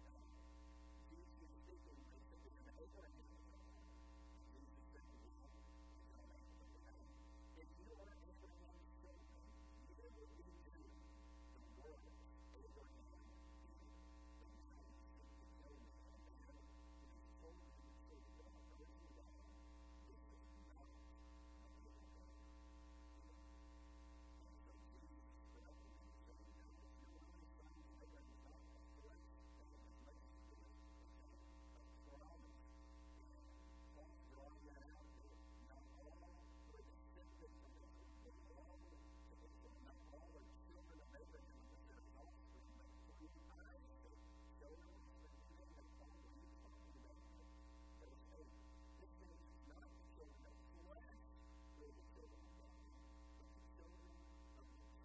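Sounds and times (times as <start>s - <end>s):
electrical mains hum: 0.0s - 55.0s
faint steady tones: 0.0s - 55.0s.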